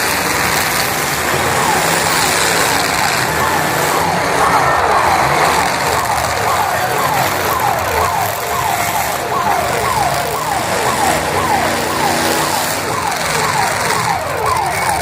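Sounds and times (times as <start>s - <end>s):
car engines running: 0.0s - 15.0s
siren falling tone: 1.1s - 15.0s.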